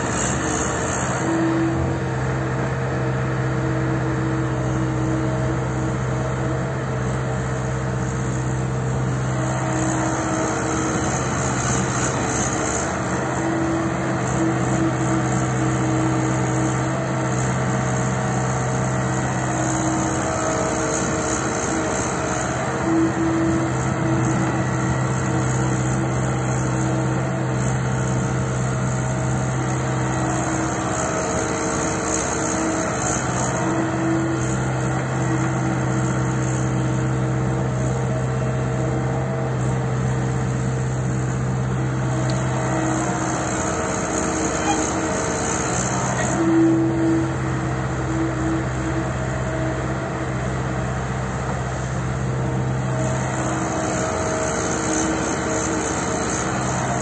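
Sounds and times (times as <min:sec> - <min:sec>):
diesel engine running: 0:00.0 - 0:57.0
higher engine tone: 0:00.0 - 0:57.0.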